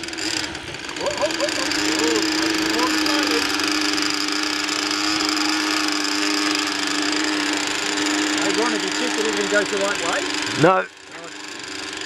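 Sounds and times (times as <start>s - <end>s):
model aircraft engine idling: 0.0s - 12.0s.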